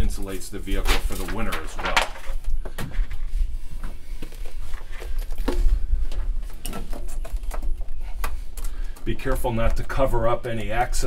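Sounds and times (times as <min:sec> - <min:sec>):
sound-deadening mat crackling: 0:00.1 - 0:10.9.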